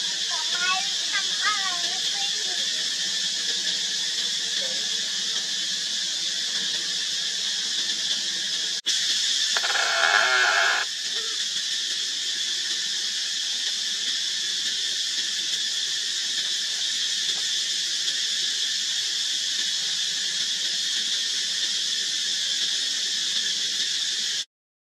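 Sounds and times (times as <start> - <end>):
insects droning: 0.0 - 24.5.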